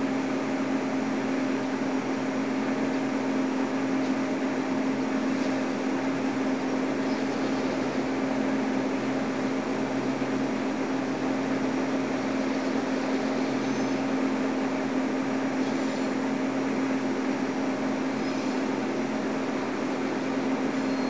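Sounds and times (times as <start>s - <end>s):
diesel locomotive engines running: 0.0s - 21.0s.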